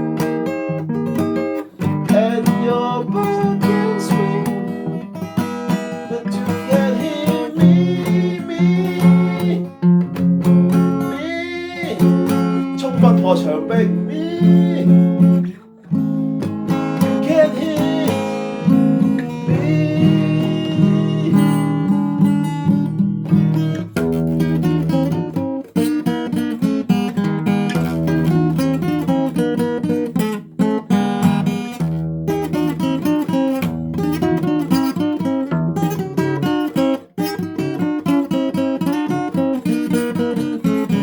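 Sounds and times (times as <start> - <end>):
acoustic guitar playing: 0.0 - 41.0.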